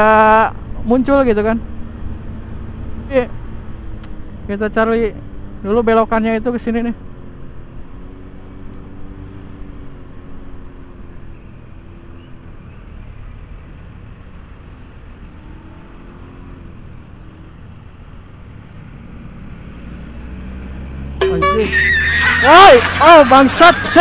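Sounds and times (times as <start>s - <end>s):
road rumble: 0.0s - 24.0s
wind: 0.0s - 24.0s.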